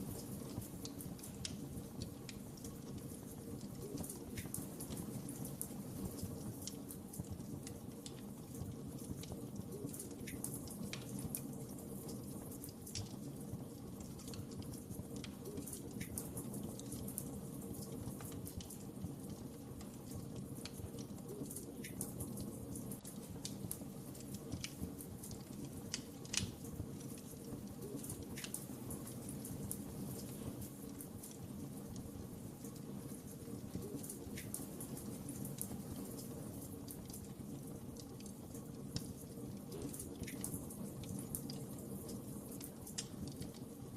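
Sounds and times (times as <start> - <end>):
low rumble of flames: 0.0 - 43.9
wood fire crackling: 0.0 - 43.9
loud snap of fire: 0.1 - 43.7.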